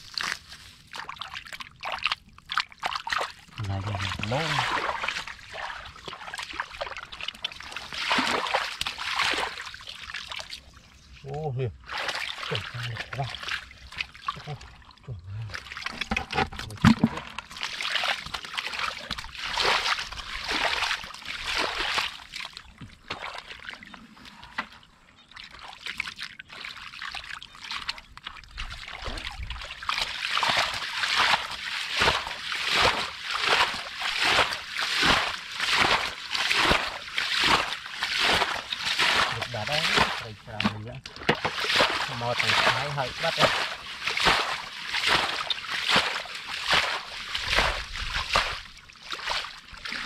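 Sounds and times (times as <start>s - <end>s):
muddy water sloshing: 0.0s - 50.0s.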